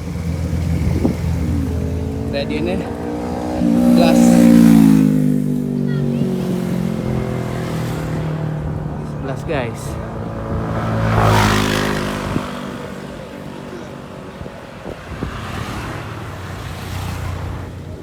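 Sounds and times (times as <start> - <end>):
road noise: 0.0 - 18.0
vehicle engine passing by: 0.0 - 18.0.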